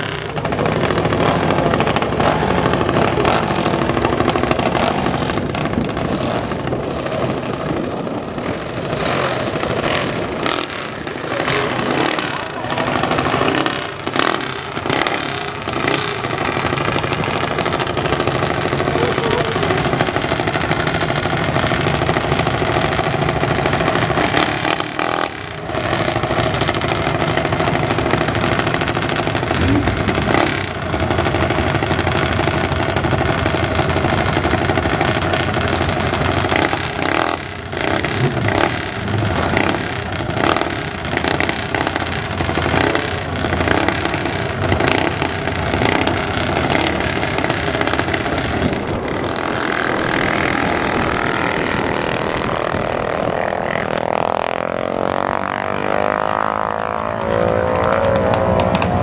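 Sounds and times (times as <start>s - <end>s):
mini bike engines running: 0.0s - 59.0s.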